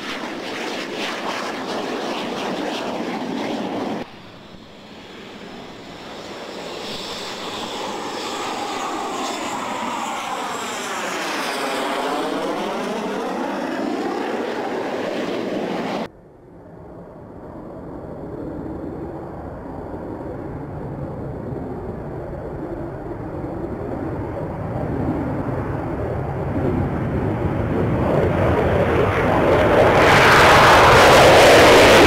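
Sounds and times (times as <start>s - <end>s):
jet engine flying past: 0.0s - 32.0s.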